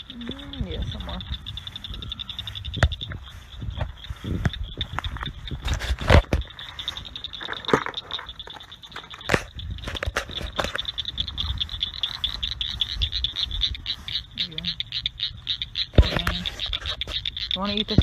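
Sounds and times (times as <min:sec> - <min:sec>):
high pulsing trills: 0:00.0 - 0:18.0.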